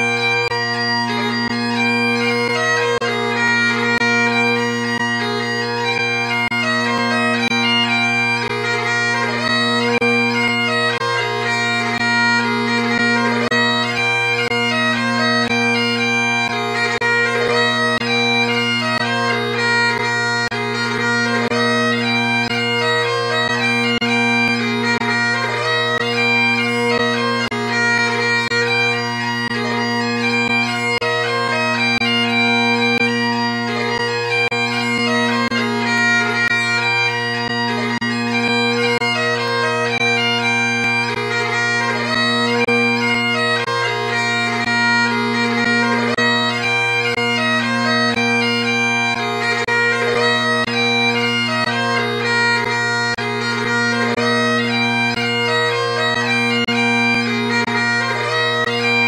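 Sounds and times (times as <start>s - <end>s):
bagpipe drones: 0.0s - 59.0s
bagpipes playing a tune: 0.0s - 59.0s.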